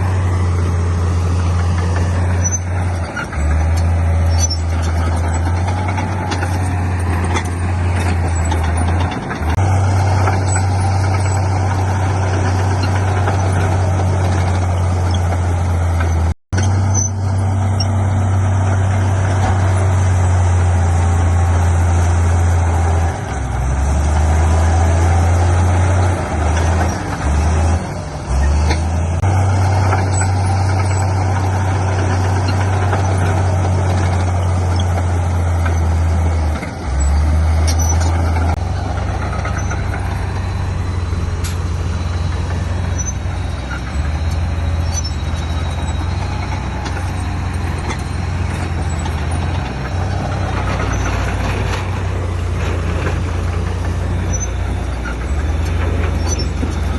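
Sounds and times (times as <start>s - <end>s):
heavy diesel engines under load: 0.0s - 56.9s.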